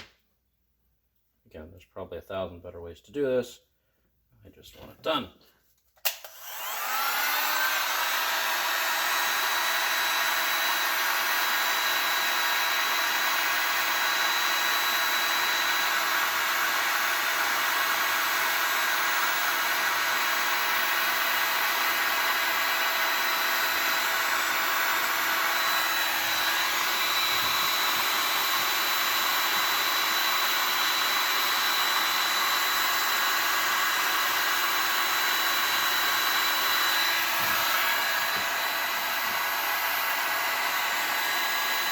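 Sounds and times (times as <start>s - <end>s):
hot-air blower whining: 6.0s - 41.9s.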